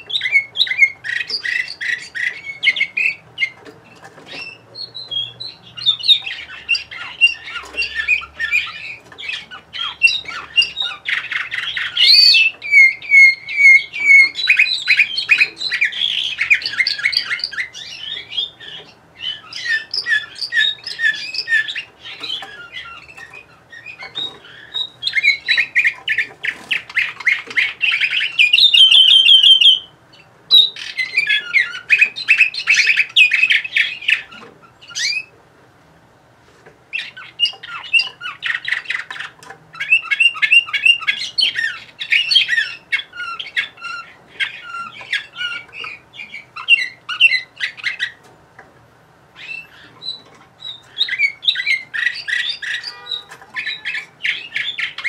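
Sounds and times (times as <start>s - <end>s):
canary singing trills: 0.0s - 35.4s, 36.9s - 48.3s, 49.3s - 55.0s.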